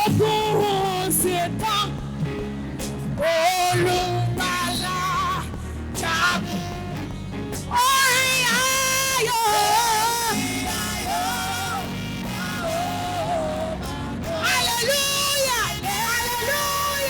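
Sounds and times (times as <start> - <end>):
live church band: 0.0 - 17.0
person singing long sliding notes: 3.2 - 17.0.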